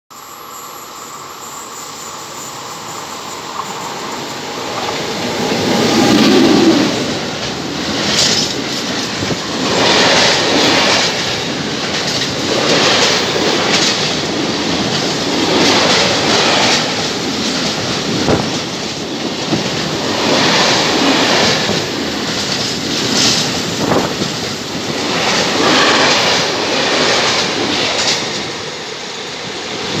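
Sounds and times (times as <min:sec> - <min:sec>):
freight train passing: 0:00.1 - 0:30.0.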